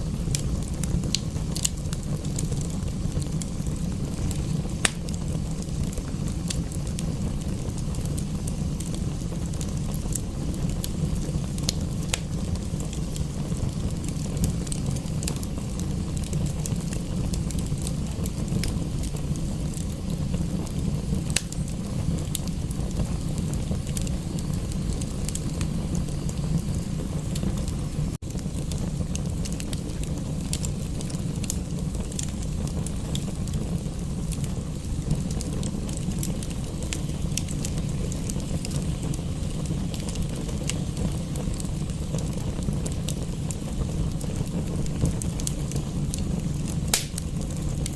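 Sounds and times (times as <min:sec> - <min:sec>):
steady low rumble: 0:00.0 - 0:47.9
wood fire crackling and popping: 0:00.0 - 0:47.9.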